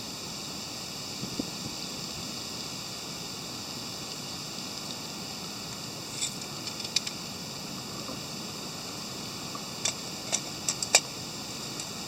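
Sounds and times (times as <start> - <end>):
wind hiss: 0.0 - 12.0.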